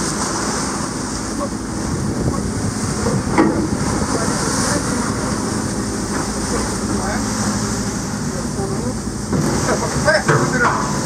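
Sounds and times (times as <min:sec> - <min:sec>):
ship engine drone: 0:00.0 - 0:11.0.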